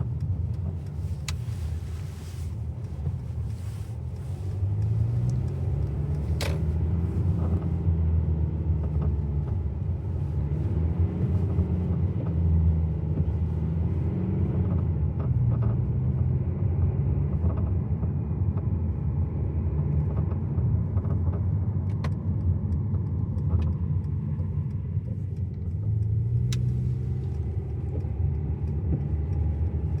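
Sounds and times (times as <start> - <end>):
car road rumble: 0.0 - 30.0.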